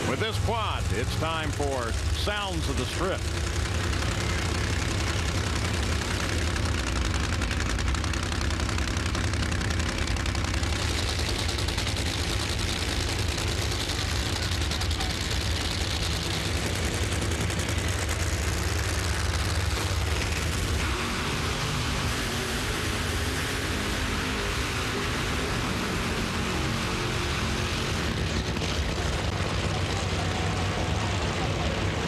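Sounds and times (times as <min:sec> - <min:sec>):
drag racing engines crackling: 0:00.0 - 0:32.0.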